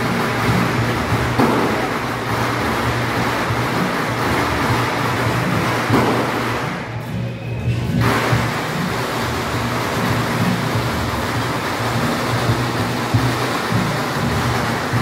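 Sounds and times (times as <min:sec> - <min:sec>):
loud procession music: 0:00.0 - 0:15.0.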